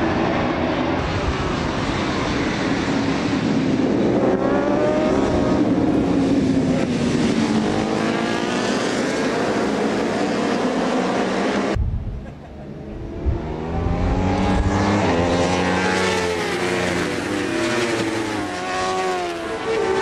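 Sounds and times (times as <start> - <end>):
racing motorcycle engines revving: 0.0 - 20.0.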